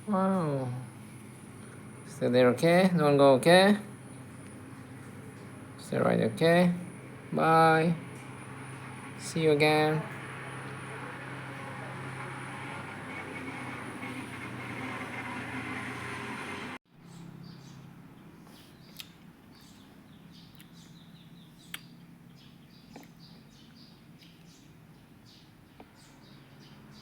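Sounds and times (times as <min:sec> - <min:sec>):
small birds chirping: 0:00.0 - 0:14.8, 0:17.0 - 0:27.0
noisy rumble with low hum: 0:00.0 - 0:27.0.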